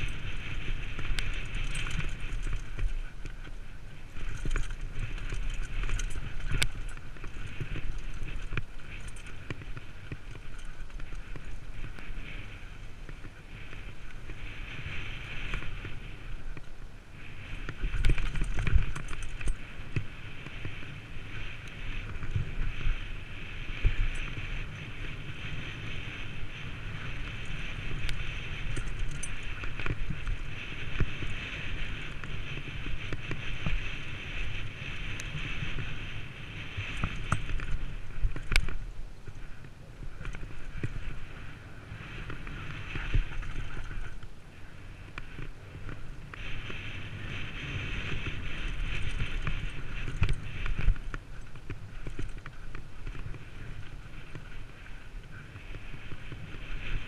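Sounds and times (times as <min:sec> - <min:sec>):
bike rattling and knocking: 0:00.0 - 0:44.3, 0:45.1 - 0:54.8
bike tyres rolling over stones: 0:00.0 - 0:57.0
wind on microphone: 0:00.0 - 0:57.0.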